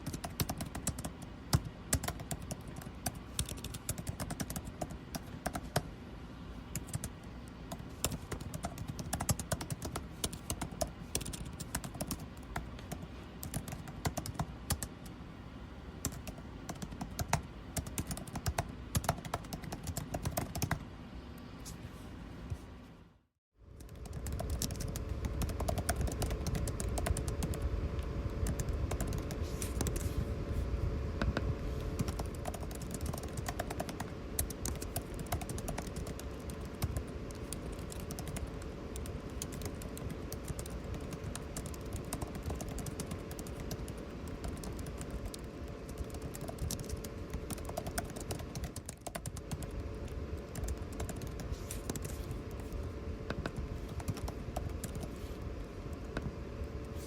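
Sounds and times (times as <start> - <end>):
air conditioning hum: 0.0 - 57.0.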